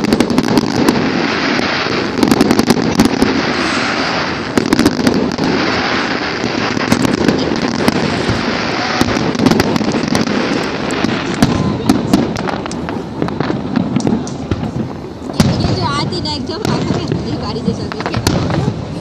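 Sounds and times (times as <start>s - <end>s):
fireworks bangs and crackle: 0.0s - 19.0s.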